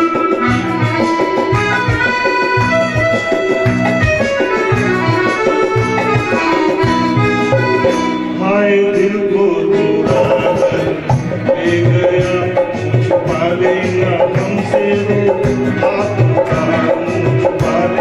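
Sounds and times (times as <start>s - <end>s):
accordion-voiced keyboard melody: 0.0s - 18.0s
drum and tabla beat: 0.0s - 18.0s.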